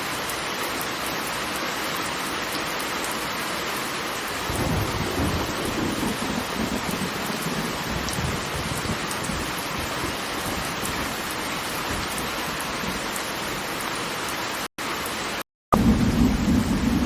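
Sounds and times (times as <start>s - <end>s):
heavily falling water rushing: 0.0s - 17.0s.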